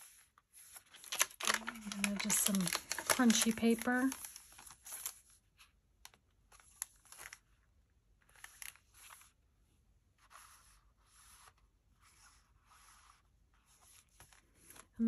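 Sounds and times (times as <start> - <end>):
paper rustling and crinkling: 0.0 - 9.4, 10.2 - 15.0.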